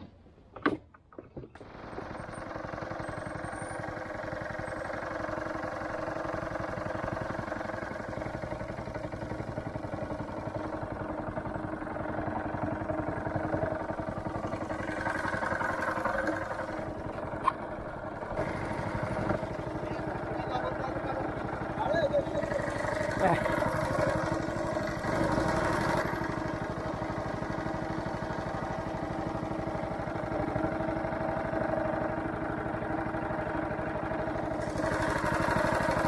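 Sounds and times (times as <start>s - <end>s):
small boat engine running: 1.6s - 36.0s.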